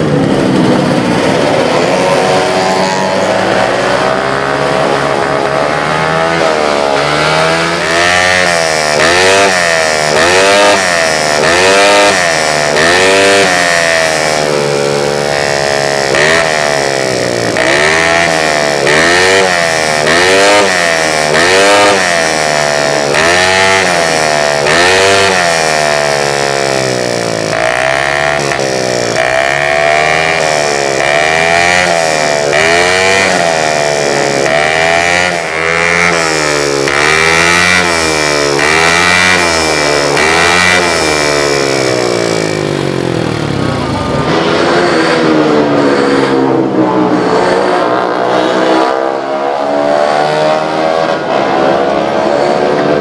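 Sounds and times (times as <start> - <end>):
scooter engine revving: 0.0 - 53.0.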